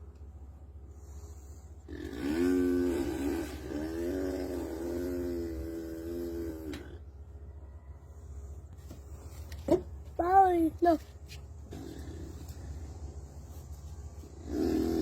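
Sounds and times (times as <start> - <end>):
toddler droning engine imitation: 0.9 - 8.6, 10.2 - 15.0.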